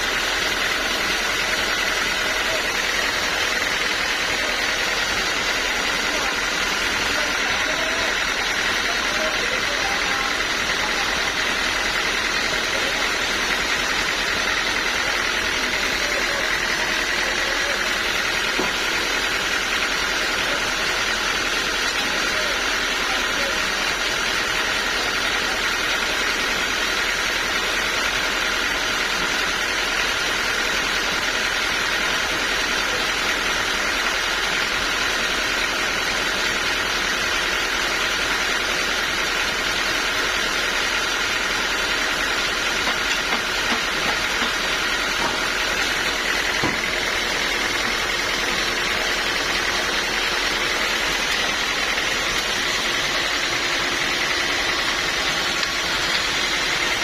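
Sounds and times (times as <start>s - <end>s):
high machine whine: 0.0s - 57.0s
sawmill machinery din: 0.0s - 57.0s.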